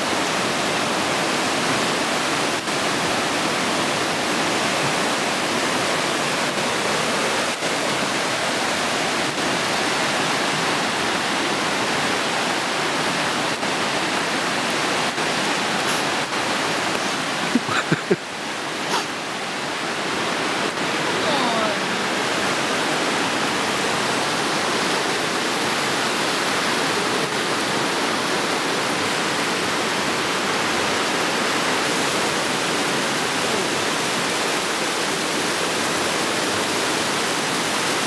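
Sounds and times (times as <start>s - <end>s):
river rapids roaring: 0.0s - 38.0s.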